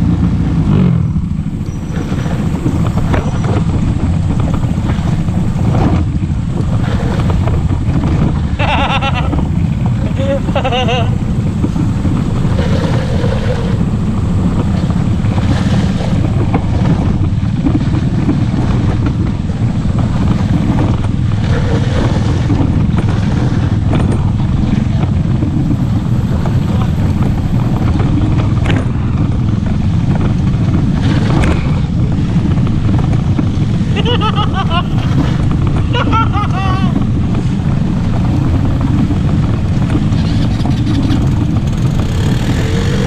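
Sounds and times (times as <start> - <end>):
atv engine running: 0.0 - 43.0
wind buffeting microphone: 0.0 - 43.0.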